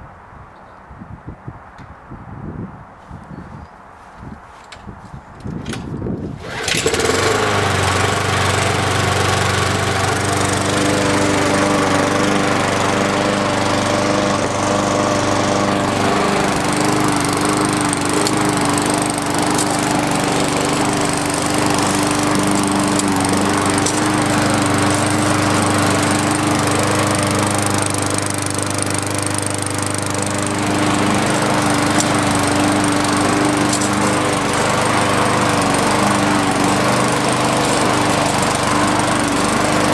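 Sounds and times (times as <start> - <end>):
lawn mower engine pull-started: 4.5 - 39.9.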